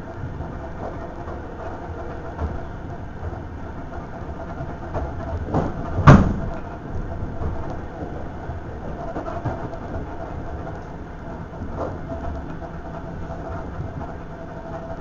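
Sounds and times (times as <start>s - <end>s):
electric train running rumble: 0.0s - 15.0s.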